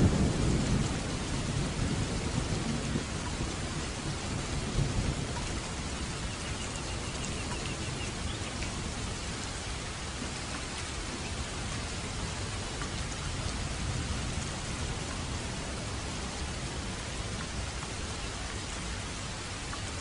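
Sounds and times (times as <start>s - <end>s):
thunder rumble: 0.0s - 19.3s
heavy rain: 0.0s - 20.0s.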